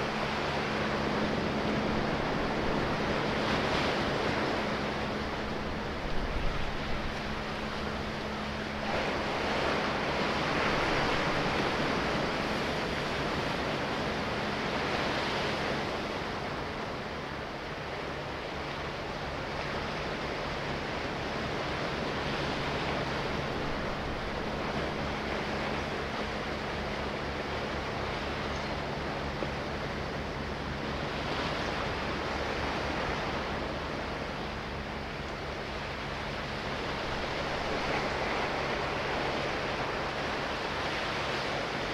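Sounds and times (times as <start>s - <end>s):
sea waves washing: 0.0s - 41.9s.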